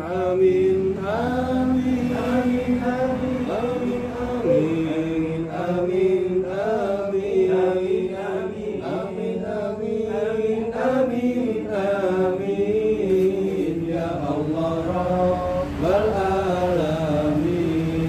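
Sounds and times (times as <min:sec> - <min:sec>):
men chanting in unison: 0:00.0 - 0:18.0.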